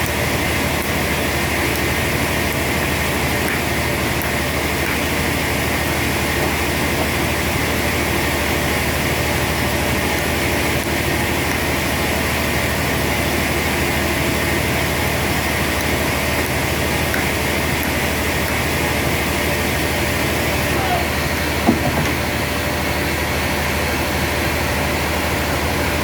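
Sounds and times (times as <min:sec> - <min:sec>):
sawmill machinery droning: 0:00.0 - 0:26.0.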